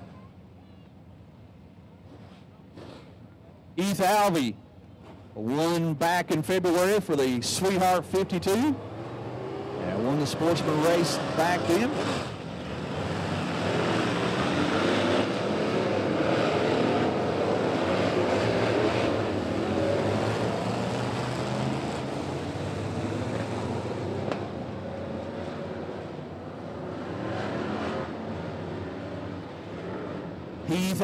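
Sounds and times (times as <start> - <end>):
race car engines passing: 5.0 - 31.0.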